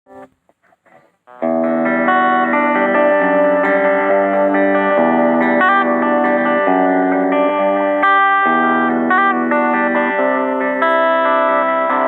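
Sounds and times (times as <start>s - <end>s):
guitar chords through effects: 0.1s - 0.4s, 1.3s - 12.0s.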